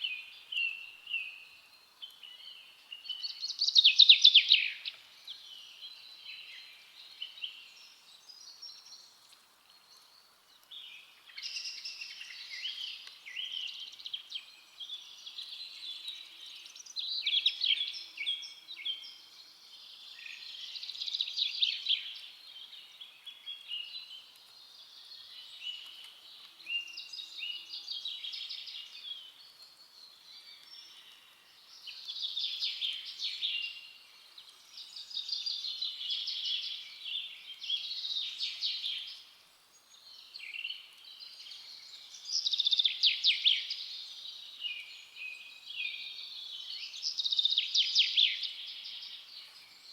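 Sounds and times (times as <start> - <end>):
faint background hiss: 0.0 - 49.9
songbirds singing: 0.0 - 49.9.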